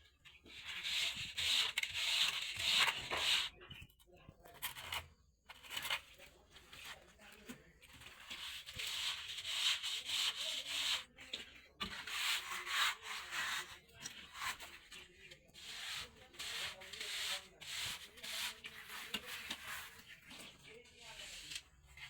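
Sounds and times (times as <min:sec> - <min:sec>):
trowel scraping plastered wall: 0:00.3 - 0:03.6, 0:04.6 - 0:22.0.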